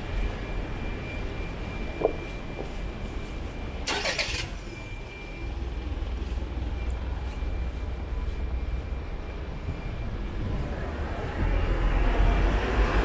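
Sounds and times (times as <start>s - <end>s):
street traffic rumbling: 0.0s - 13.0s.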